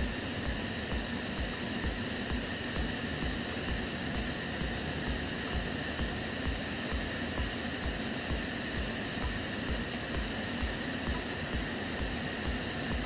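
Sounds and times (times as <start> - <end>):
welding arc hissing and humming: 0.0 - 13.0.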